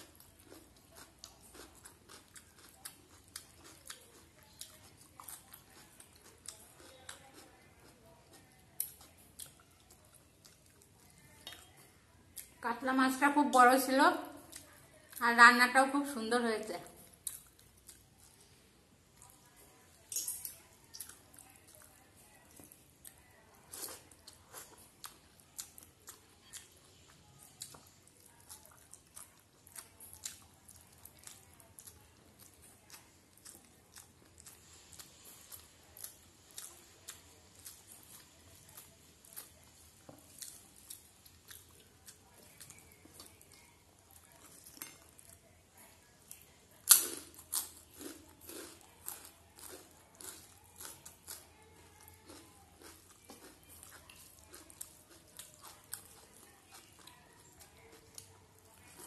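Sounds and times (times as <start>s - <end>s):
wet chewing and smacking: 0.0s - 12.6s, 17.0s - 18.6s, 19.2s - 45.5s, 46.3s - 59.0s.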